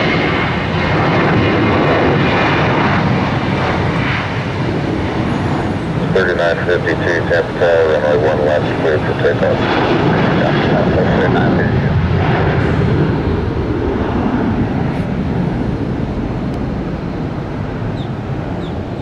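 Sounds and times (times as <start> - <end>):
aircraft engines roaring: 0.0 - 19.0.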